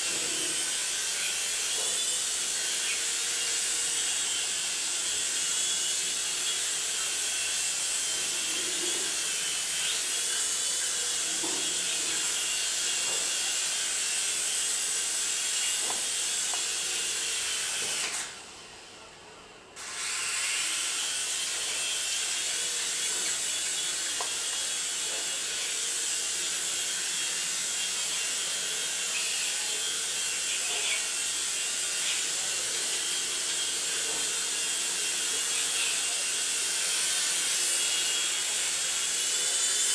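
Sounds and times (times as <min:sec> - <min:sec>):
toy helicopter motor whirring: 0:00.0 - 0:18.8, 0:19.8 - 0:39.9.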